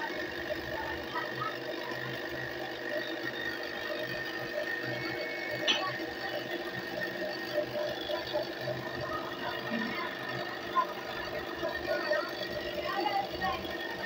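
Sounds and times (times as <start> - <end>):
blender motor grinding: 0.0 - 14.0.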